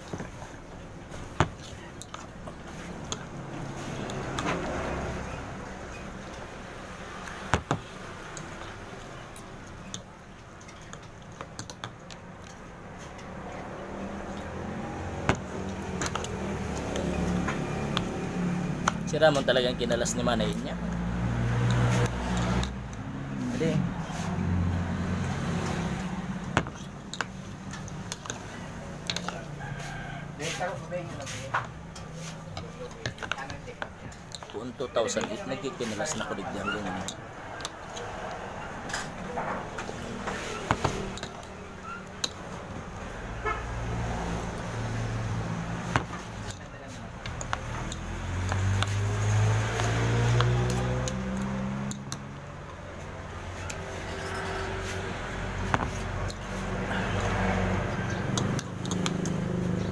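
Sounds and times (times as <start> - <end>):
passing vehicle engine hum: 1.0 - 9.8, 12.6 - 59.9.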